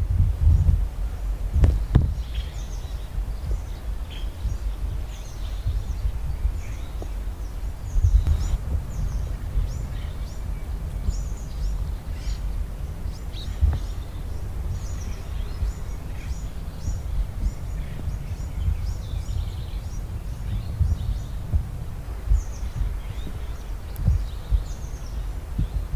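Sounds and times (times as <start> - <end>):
low rumble: 0.0 - 25.9
small birds chirping: 0.0 - 25.9.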